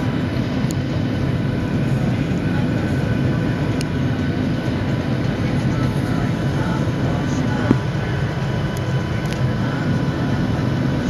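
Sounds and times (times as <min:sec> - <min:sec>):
faint steady whine: 0:00.0 - 0:11.0
jet airliner cabin drone: 0:00.0 - 0:11.0.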